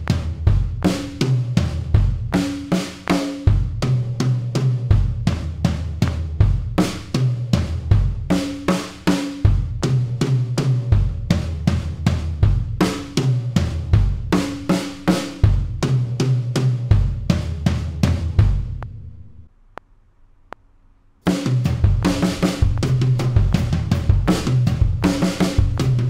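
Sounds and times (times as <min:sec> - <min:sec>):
bass drum kicks: 0:00.0 - 0:08.4, 0:09.5 - 0:14.7, 0:15.4 - 0:19.4, 0:21.3 - 0:26.0
drum kit fill: 0:00.0 - 0:19.5, 0:21.2 - 0:26.0.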